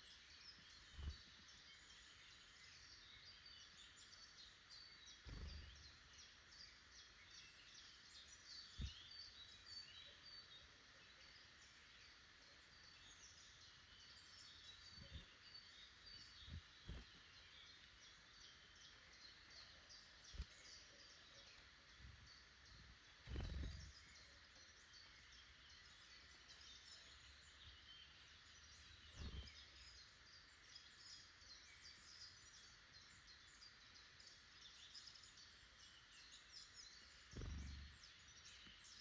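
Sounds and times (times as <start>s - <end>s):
birds chirping and trilling: 0.0s - 39.0s
soft outdoor hiss: 0.0s - 39.0s.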